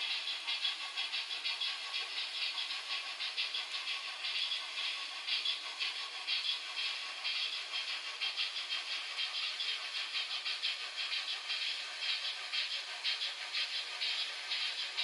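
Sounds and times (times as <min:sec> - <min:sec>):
model train rattling hiss: 0:00.0 - 0:15.0.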